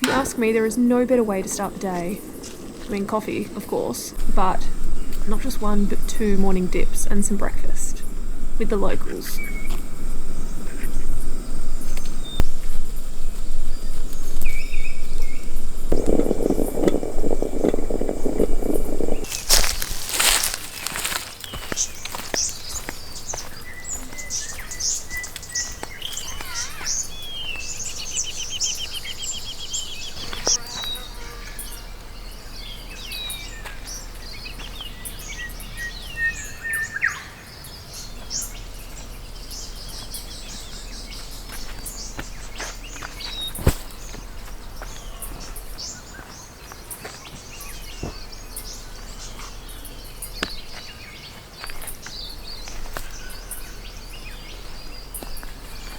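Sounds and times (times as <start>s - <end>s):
wild birds chirping: 0.0s - 55.9s.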